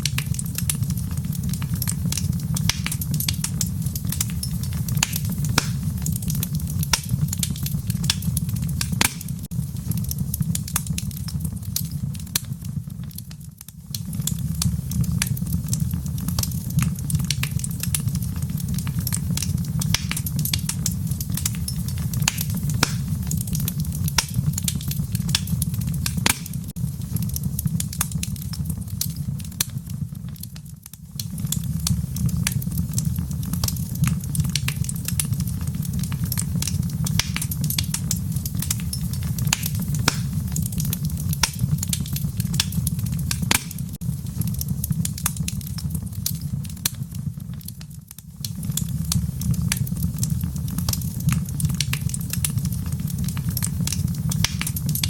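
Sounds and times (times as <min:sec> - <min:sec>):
low rumble of burning: 0:00.0 - 0:55.0
wood fire crackling and popping: 0:00.0 - 0:55.0.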